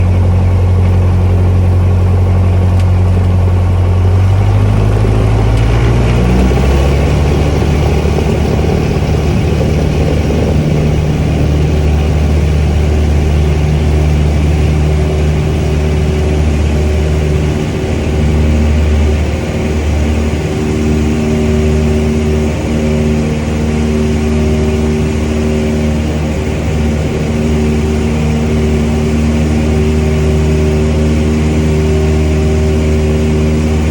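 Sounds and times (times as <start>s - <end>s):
propeller plane engine: 0.0s - 33.9s.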